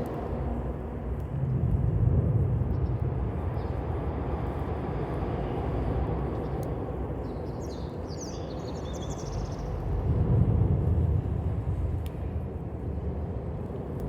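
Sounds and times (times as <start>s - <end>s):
low outdoor rumble: 0.0s - 7.4s, 8.0s - 14.0s.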